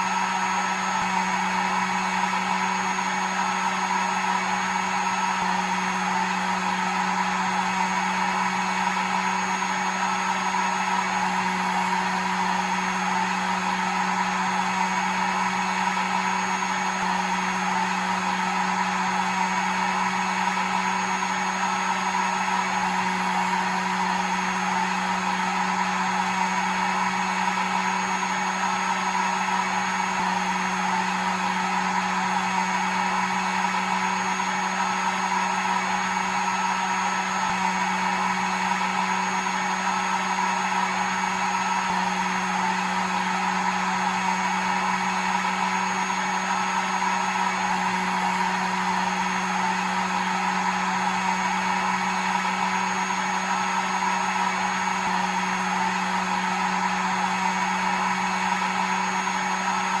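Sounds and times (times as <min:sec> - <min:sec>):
hair dryer running: 0:00.0 - 1:00.0.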